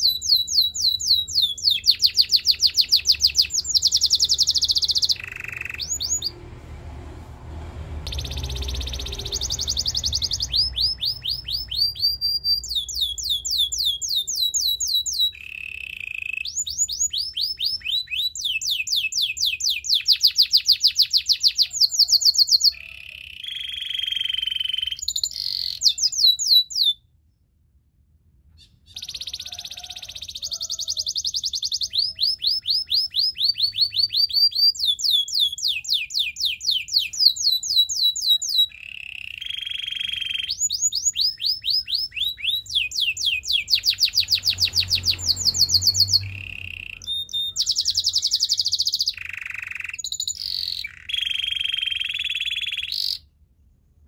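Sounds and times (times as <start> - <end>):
canary singing: 0.0 - 6.4, 8.0 - 27.3, 28.4 - 53.4.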